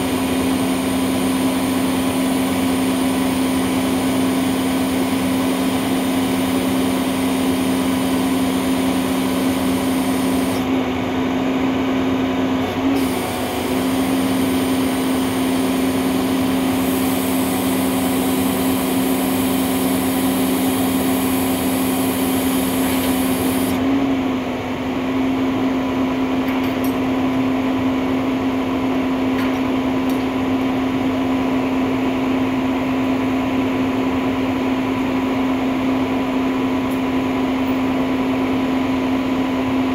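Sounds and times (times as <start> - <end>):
truck machine hum: 0.0 - 39.9.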